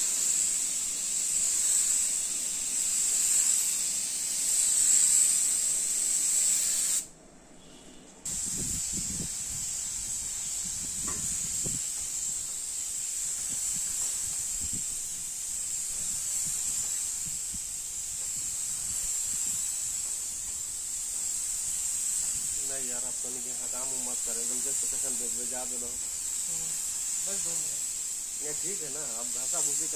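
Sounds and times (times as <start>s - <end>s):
spray gun hissing: 0.0s - 7.1s, 8.2s - 29.9s.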